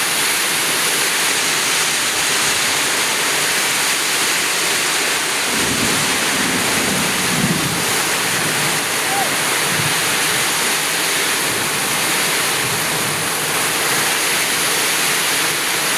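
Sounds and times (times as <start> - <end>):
heavy rain falling: 0.0 - 15.9.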